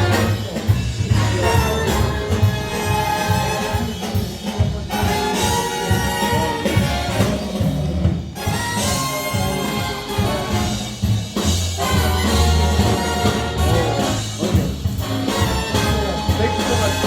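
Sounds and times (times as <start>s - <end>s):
orchestral music with brass: 0.0s - 17.0s.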